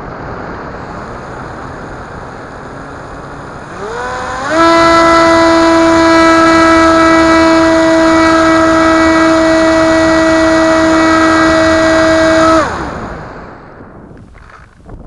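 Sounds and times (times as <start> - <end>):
electric motor and propeller whine: 0.0 - 14.9.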